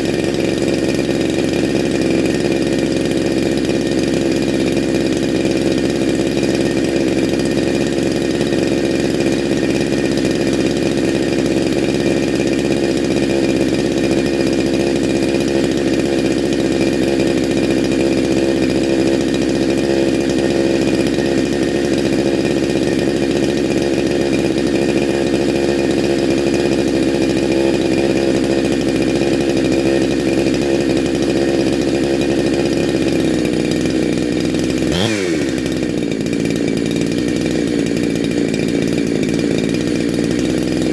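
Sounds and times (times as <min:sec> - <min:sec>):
chainsaw engine running: 0:00.0 - 0:40.9.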